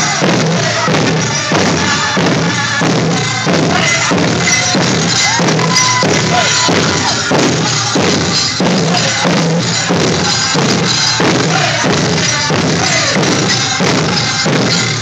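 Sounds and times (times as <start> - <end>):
bass hand drum beating: 0.0 - 15.0
group of voices singing: 0.0 - 15.0.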